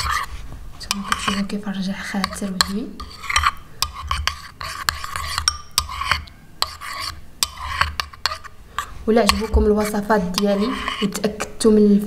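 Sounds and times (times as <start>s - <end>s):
metal spoon stirring in bowl: 0.0s - 11.8s.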